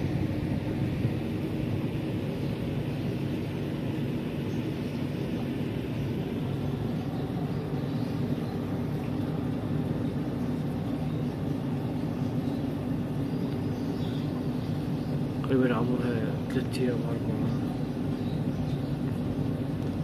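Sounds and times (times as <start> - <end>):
air pump humming: 0.0 - 20.0.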